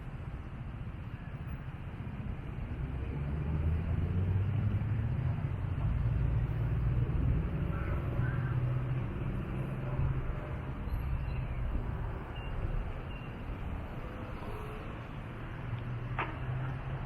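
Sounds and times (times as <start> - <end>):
vehicle engine rumble: 0.1 - 17.0.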